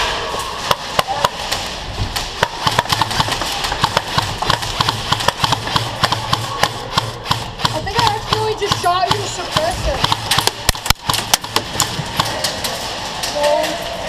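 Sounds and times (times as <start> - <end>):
airsoft guns firing: 0.0 - 12.8.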